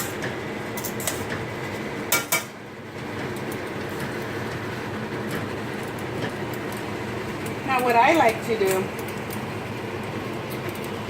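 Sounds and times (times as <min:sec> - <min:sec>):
steady rushing kitchen noise: 0:00.0 - 0:11.0.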